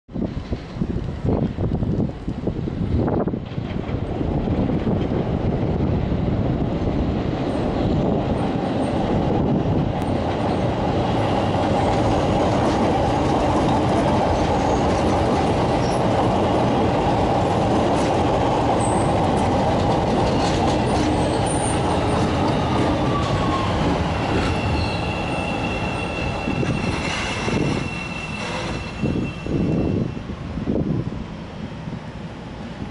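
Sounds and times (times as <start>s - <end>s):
train wheels rumbling: 0.1s - 32.9s.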